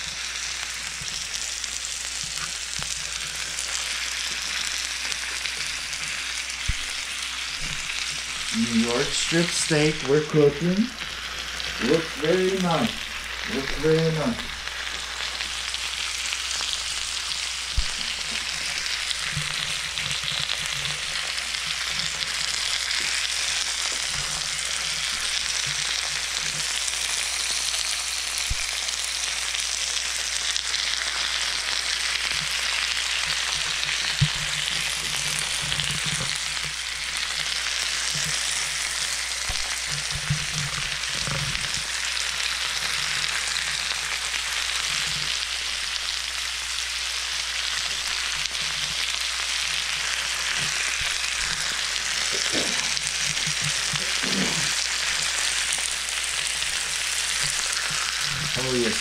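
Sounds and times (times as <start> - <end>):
sharp pops of frying: 0.0 - 59.0
steaks sizzling on grill: 0.0 - 59.0.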